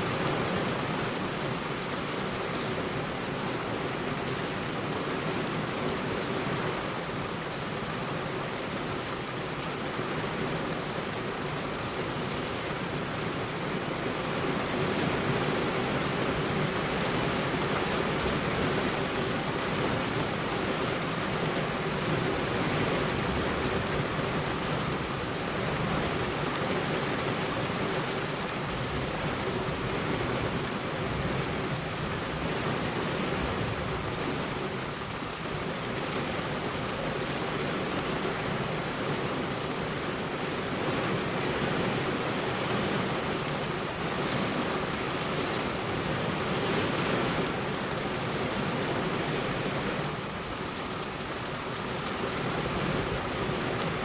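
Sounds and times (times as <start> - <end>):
heavy rain on a road: 0.0 - 54.0.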